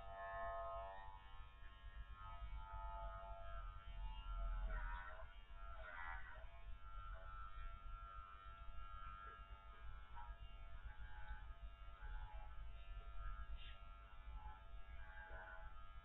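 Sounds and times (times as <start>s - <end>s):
electric clippers humming: 0.0s - 16.0s.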